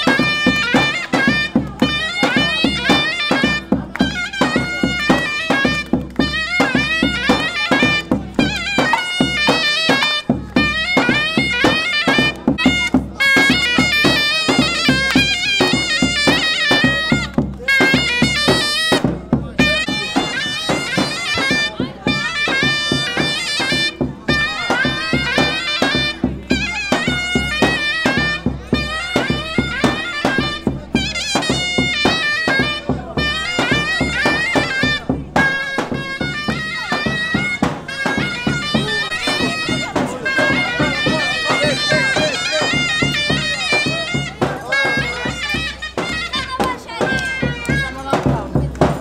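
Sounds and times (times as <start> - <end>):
shrill folk oboe melody: 0.0 - 48.7
steady drumbeat: 0.0 - 49.0.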